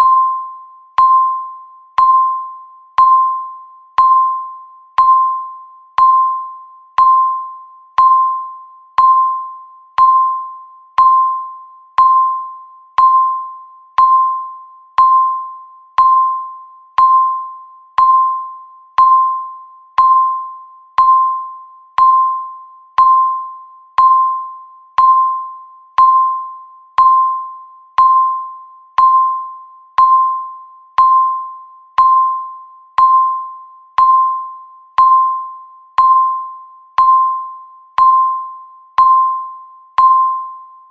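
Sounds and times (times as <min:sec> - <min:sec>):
timer tick-beep: 0:00.0 - 0:40.9.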